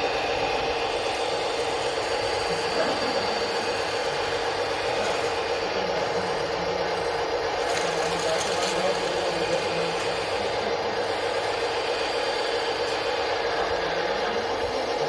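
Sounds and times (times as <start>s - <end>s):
toy loader mechanical whir: 0.0s - 15.0s.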